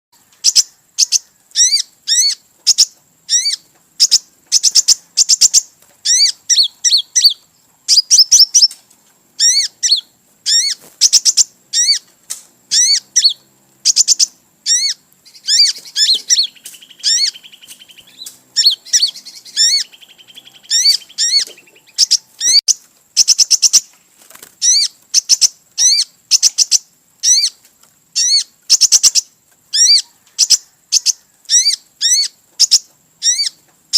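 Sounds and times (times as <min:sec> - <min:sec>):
bird chirping: 0:00.2 - 0:24.0, 0:24.6 - 0:33.7
buzzy bird trill: 0:00.4 - 0:08.8, 0:09.4 - 0:33.6.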